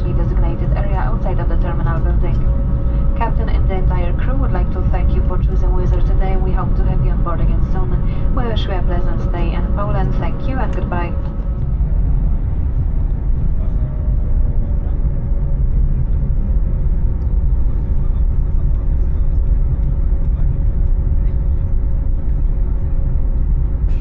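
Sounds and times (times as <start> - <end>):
aircraft cabin rumble: 0.0 - 24.0
faint engine hum: 0.0 - 24.0.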